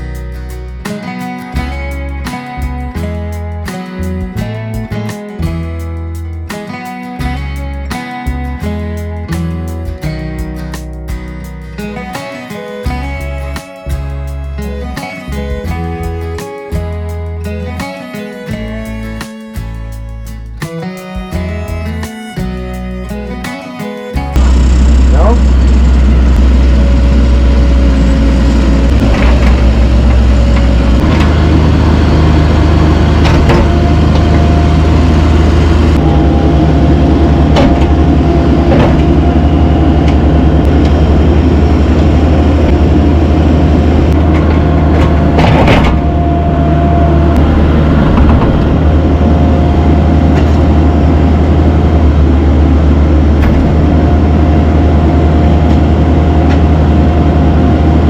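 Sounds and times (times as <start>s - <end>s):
diesel engine running: 0.0s - 58.0s
steady whine: 0.0s - 58.0s.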